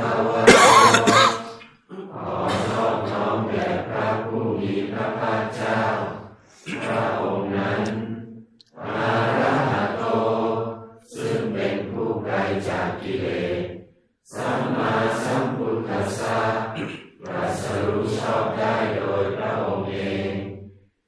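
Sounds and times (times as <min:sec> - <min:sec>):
group of voices chanting: 0:00.0 - 0:20.8.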